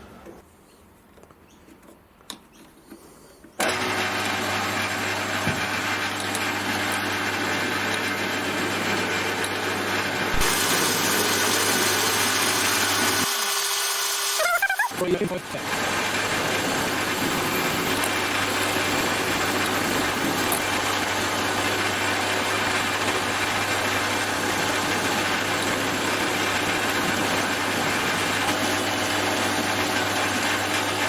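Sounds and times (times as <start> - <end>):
power tool motor running: 3.6 - 31.0.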